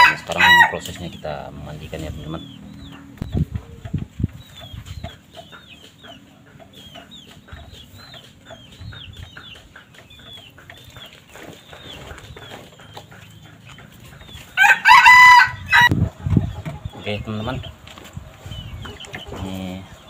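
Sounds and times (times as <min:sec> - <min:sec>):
bird chirping: 0:00.7 - 0:14.8, 0:15.6 - 0:20.0.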